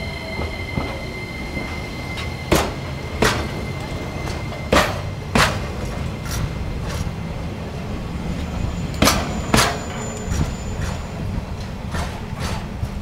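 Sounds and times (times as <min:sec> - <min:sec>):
train wheels clacking over rail joint: 0:00.3 - 0:07.2, 0:08.4 - 0:13.0.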